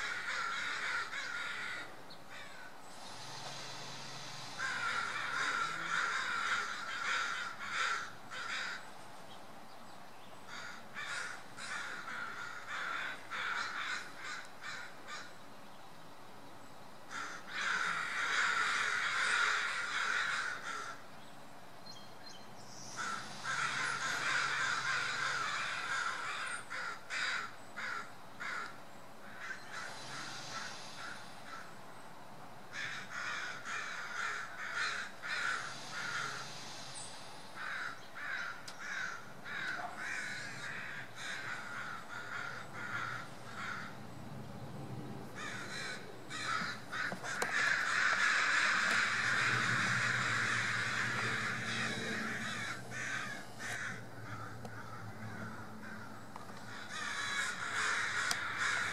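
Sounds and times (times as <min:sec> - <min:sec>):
crows cawing: 0:00.0 - 0:02.8, 0:04.2 - 0:08.9, 0:10.5 - 0:15.4, 0:17.1 - 0:21.1, 0:22.9 - 0:31.8, 0:32.7 - 0:36.6, 0:37.6 - 0:44.0, 0:45.4 - 0:58.9.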